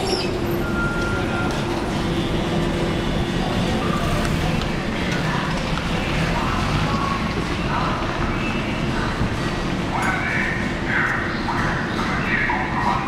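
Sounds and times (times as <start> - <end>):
light-rail car humming: 0.0 - 13.0
street noise: 0.0 - 13.0.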